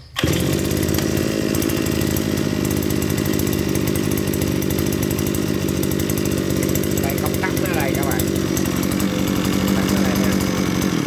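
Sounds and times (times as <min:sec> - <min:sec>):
brush cutter engine running: 0:00.0 - 0:11.0
recoil starter pull: 0:00.0 - 0:11.0.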